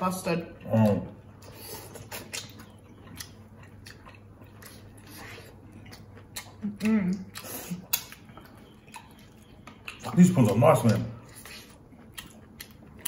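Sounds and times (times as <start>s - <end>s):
biting and chewing: 0.8s - 13.0s.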